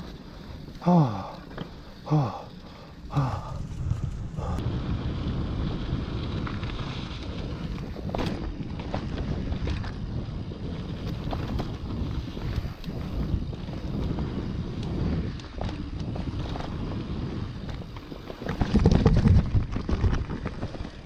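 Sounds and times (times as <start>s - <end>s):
bike rattling over bumps: 0.0s - 21.0s
bike tyres on dirt trail: 0.0s - 21.0s
wind buffeting microphone: 2.0s - 21.0s.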